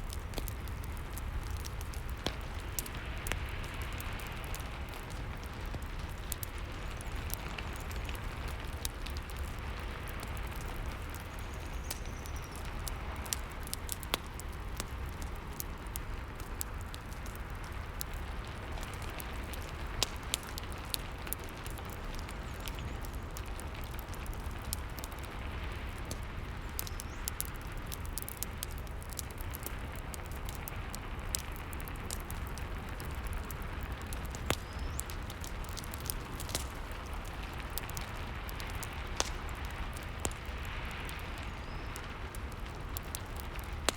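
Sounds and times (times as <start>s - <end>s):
crackling fireplace: 0.0s - 43.9s
steady rain: 0.0s - 43.9s.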